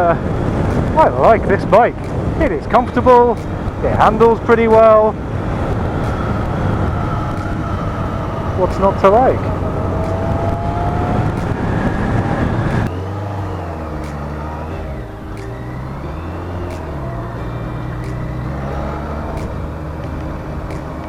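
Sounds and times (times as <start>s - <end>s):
motorcycle engine running: 0.0s - 21.0s
wind noise: 0.0s - 21.0s.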